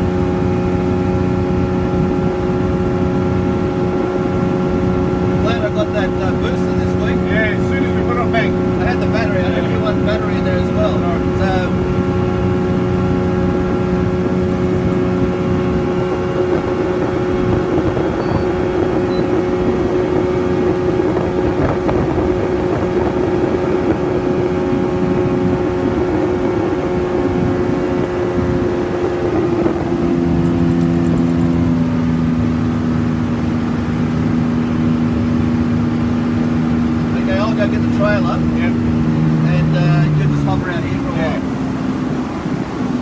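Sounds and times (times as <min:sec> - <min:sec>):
motorboat engine running: 0:00.0 - 0:43.0
water rushing: 0:00.0 - 0:43.0
wind: 0:00.0 - 0:43.0.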